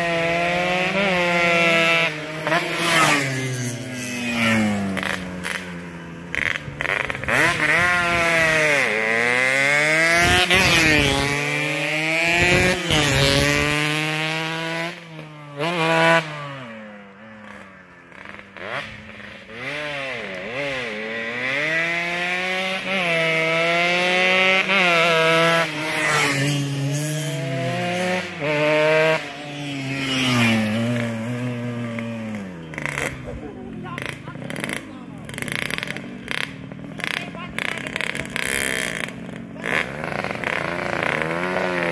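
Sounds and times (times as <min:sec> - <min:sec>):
motorcycles racing past: 0:00.0 - 0:41.9.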